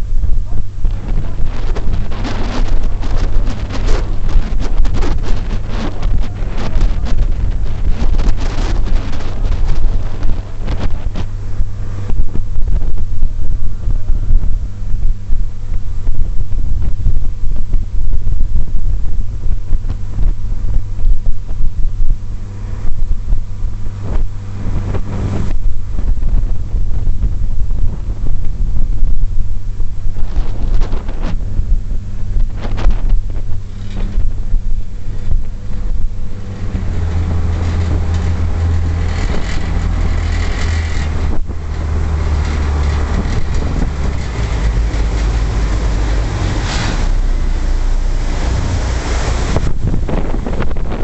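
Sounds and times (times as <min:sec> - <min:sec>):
ferry engine drone: 0:00.0 - 0:51.0
wind buffeting microphone: 0:00.0 - 0:51.0.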